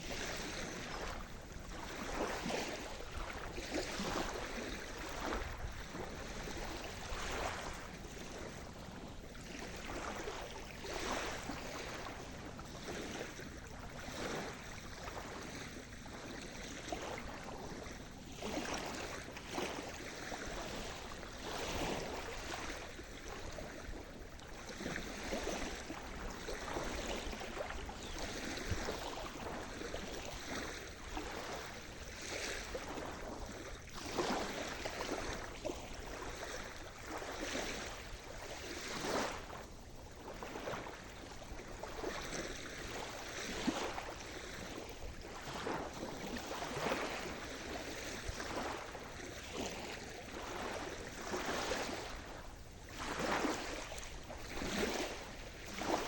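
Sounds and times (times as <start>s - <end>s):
small waves breaking: 0.0s - 56.0s.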